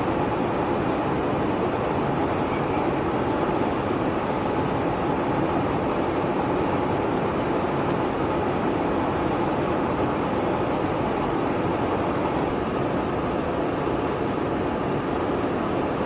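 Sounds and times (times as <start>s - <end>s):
aircraft engines and rushing air: 0.0s - 16.0s.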